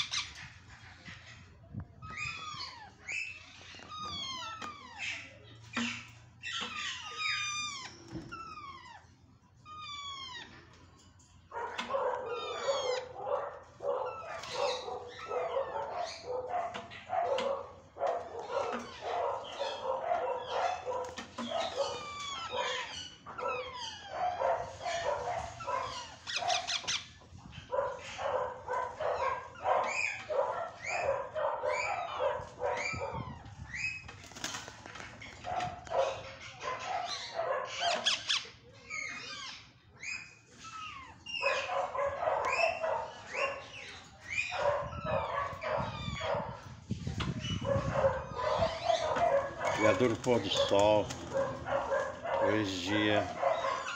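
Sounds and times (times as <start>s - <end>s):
parakeets squawking and screeching: 0.0s - 53.9s.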